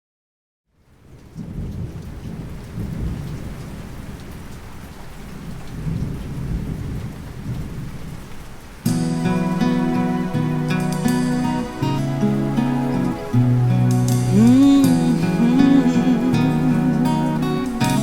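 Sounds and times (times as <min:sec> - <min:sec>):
steady rain: 0:00.7 - 0:18.0
thunder rumbling: 0:01.2 - 0:18.0.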